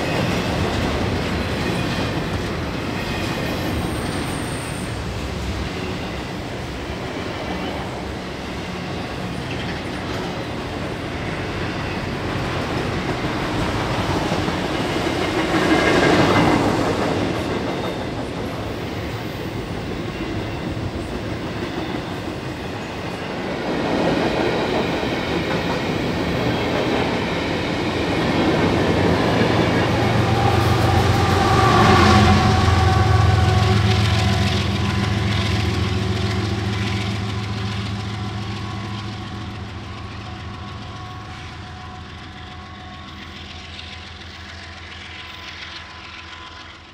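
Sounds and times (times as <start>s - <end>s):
diesel locomotive engine hum: 0.0s - 46.9s
freight train wheels rumbling on rails: 0.0s - 46.9s.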